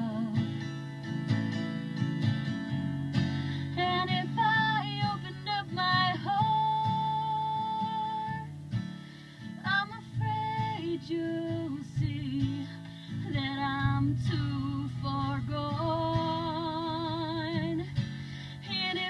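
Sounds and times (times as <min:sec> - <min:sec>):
acoustic guitar: 0:00.0 - 0:19.0.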